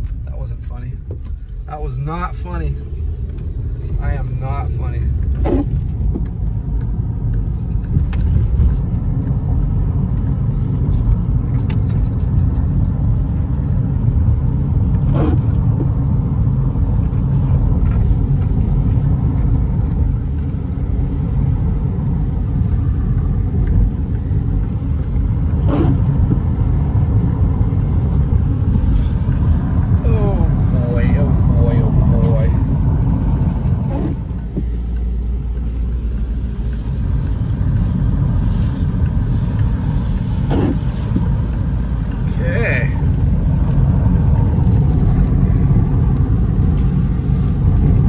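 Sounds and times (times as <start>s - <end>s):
car engine rumble: 0.0s - 48.0s
tyres on wet pavement: 0.9s - 48.0s.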